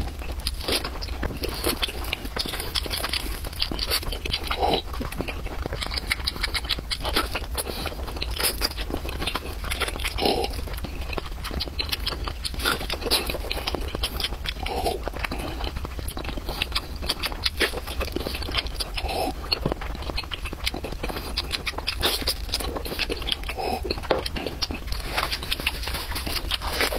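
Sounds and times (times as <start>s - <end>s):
close chewing mouth clicks: 0.0s - 26.9s
low mouth sounds: 0.0s - 26.9s.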